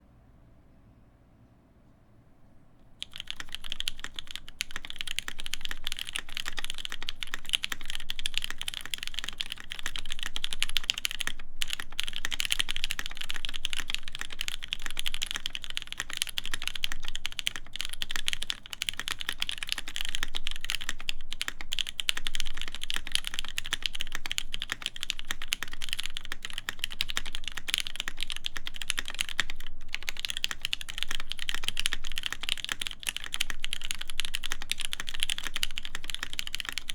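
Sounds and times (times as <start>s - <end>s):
fast typing on mechanical keyboard: 3.0s - 36.9s.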